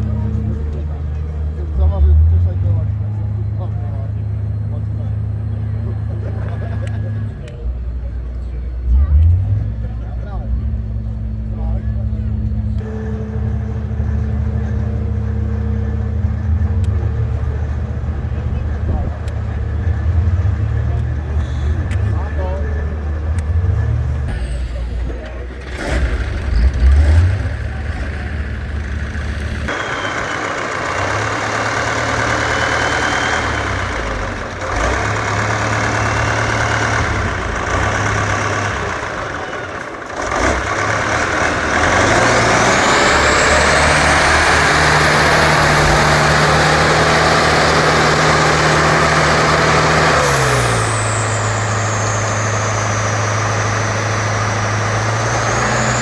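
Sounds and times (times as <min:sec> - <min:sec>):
diesel engine under load: 0:00.0 - 0:56.0
high engine whine: 0:00.0 - 0:56.0.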